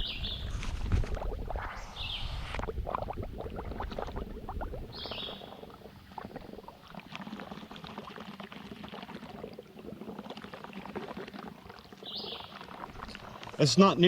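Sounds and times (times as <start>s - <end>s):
gas bubbling through liquid: 0.0s - 14.0s
small bubbles popping: 0.4s - 13.6s.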